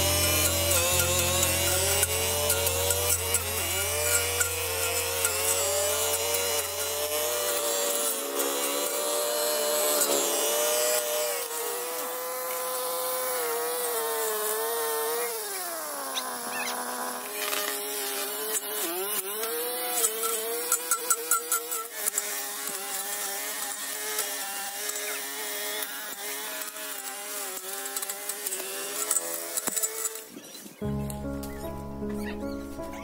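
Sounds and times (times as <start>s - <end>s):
brush cutter cutting weeds: 0.0s - 31.6s.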